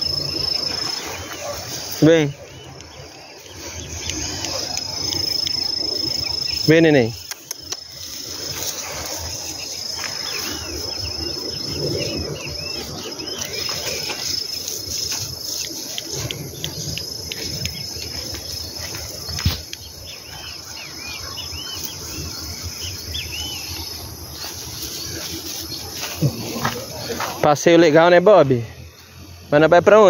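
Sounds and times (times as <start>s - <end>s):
insects shrilling: 0.0s - 29.7s
footsteps through tall grass: 0.8s - 27.6s.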